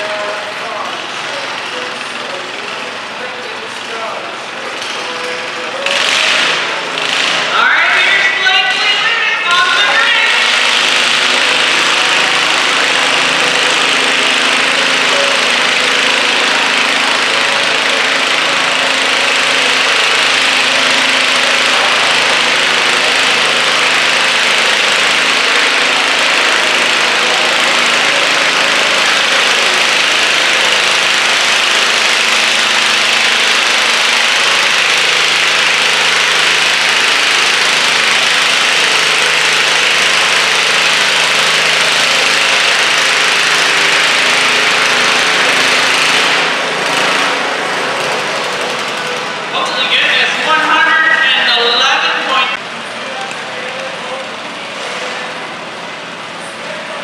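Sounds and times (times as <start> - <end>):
small engine running under load: 0.0 - 57.0.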